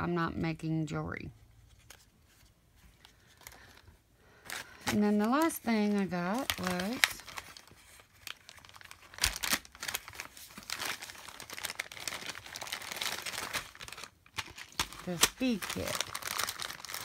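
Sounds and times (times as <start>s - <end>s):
plastic bag crinkling: 3.0s - 17.0s
sharp plastic crackles: 3.0s - 17.0s.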